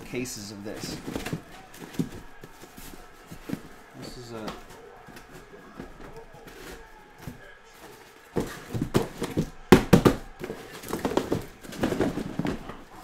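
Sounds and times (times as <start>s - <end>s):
boxes knocking and scraping cardboard: 0.0s - 13.0s.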